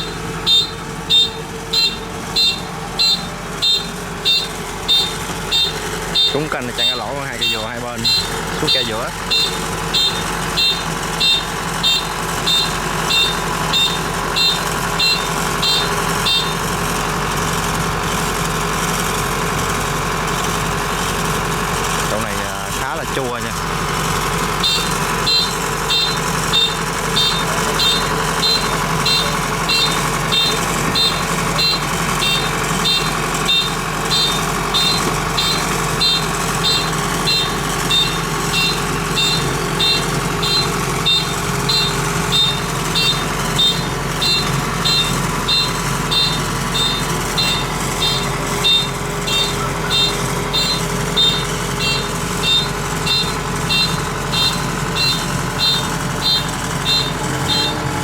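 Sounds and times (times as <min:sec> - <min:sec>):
high warning beeps: 0:00.0 - 0:18.4, 0:21.4 - 0:58.0
diesel engine running: 0:00.0 - 0:58.0.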